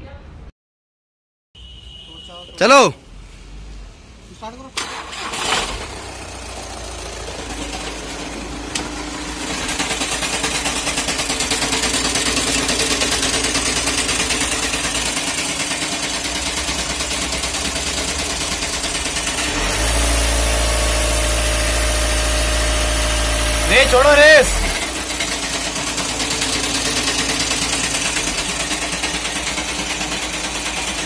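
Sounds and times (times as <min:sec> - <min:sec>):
car engine idling with pulsing vibration: 0:05.2 - 0:31.0.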